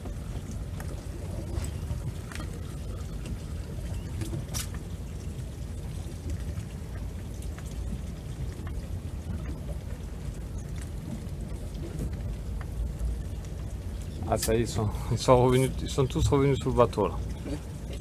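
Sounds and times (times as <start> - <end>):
wind and water rumble: 0.0 - 18.0.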